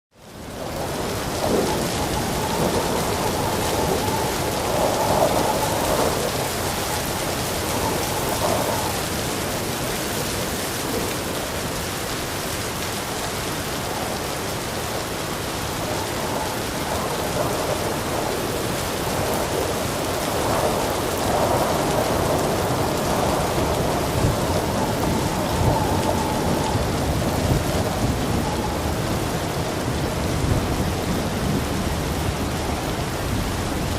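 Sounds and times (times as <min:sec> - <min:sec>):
heavy rain pouring: 0:00.1 - 0:33.9
rolling thunder: 0:00.4 - 0:11.9, 0:13.8 - 0:33.9.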